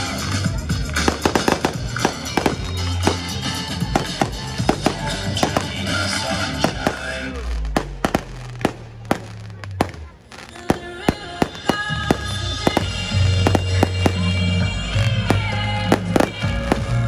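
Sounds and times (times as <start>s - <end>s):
fireworks bursting with bangs and crackles: 0.0s - 17.0s
music with steady bass: 0.0s - 17.0s.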